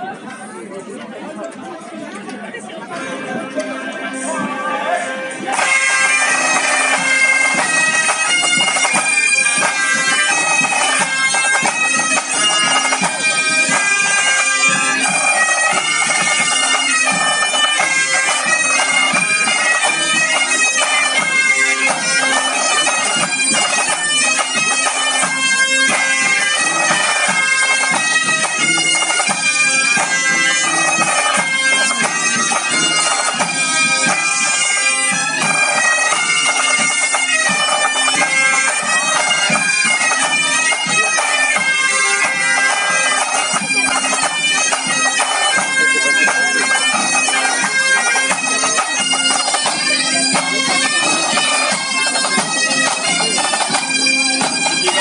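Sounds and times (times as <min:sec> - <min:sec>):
bagpipes with drones: 0:02.9 - 0:55.0
bombardes playing tune: 0:03.0 - 0:55.0.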